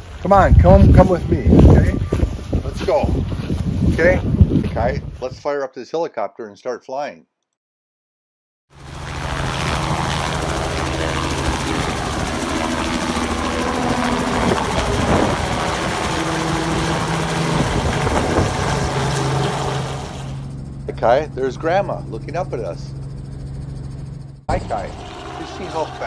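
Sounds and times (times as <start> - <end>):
helicopter rotor chop: 0.0 - 4.9, 8.7 - 26.0.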